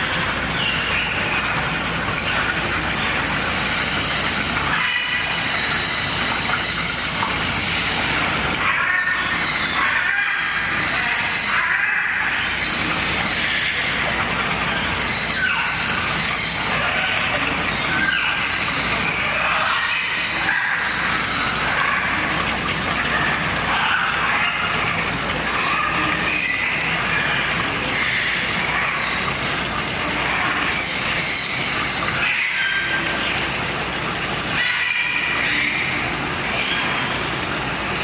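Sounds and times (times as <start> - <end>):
many birds calling: 0.0 - 38.0.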